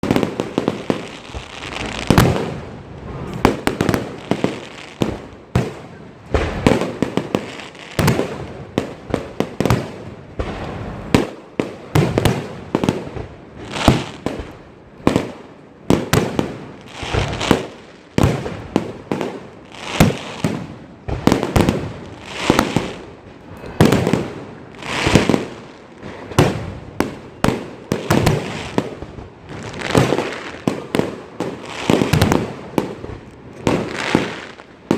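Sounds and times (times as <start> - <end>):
fireworks bangs: 0.0 - 34.9
fireworks crackling and popping: 0.0 - 34.9.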